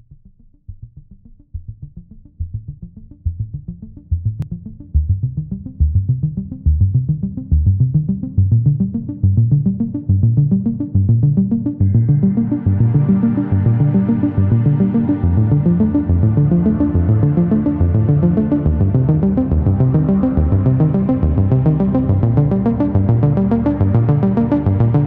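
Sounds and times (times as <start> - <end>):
pulsing synthesizer bass line: 1.7 - 25.0.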